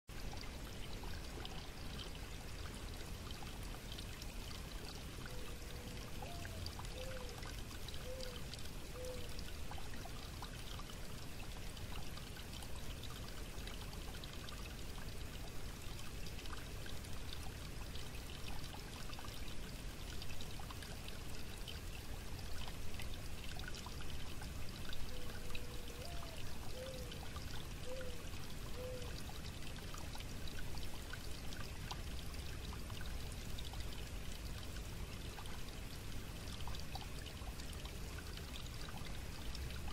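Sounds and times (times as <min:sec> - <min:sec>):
creek babbling over stones: 0:00.1 - 0:39.9
small water splashes: 0:00.1 - 0:39.9.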